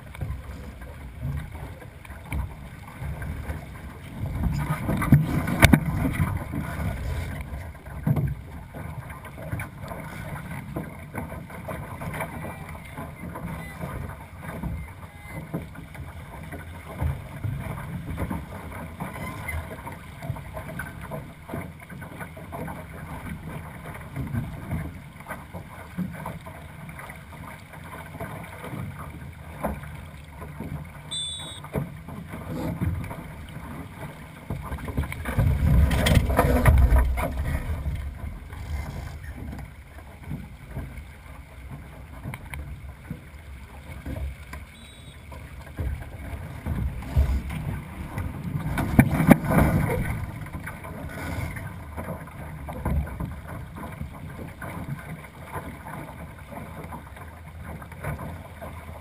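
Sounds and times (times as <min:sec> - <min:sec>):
boat and rigging knocks: 0:00.0 - 0:59.0
water rushing along hull: 0:00.0 - 0:59.0.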